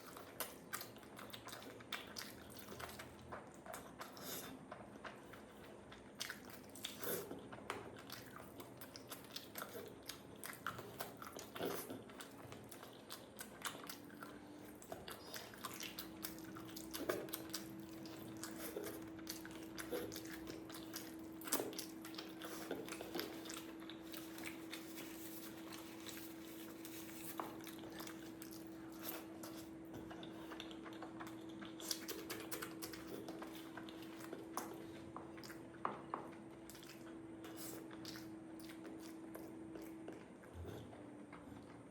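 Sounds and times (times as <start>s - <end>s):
food crunching: 0.0s - 41.9s
person chewing food: 0.0s - 41.9s.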